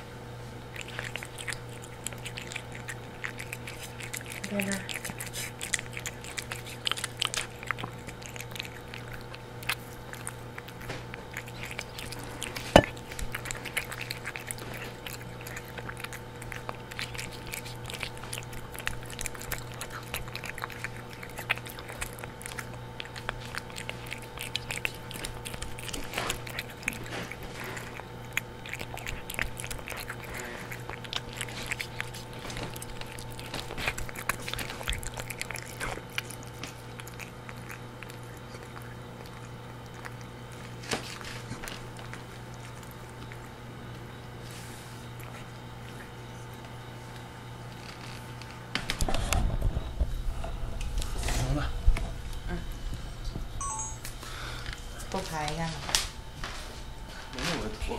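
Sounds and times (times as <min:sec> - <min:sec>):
cat chewing and licking: 0:00.4 - 0:53.8.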